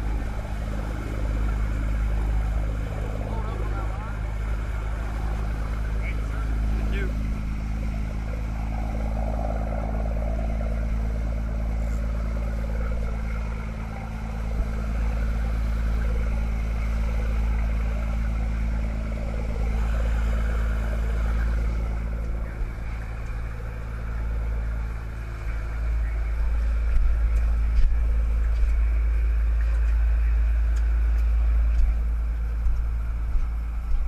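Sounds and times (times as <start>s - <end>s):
rush of churning wake: 0.0s - 31.1s
boat engine droning: 0.0s - 34.0s.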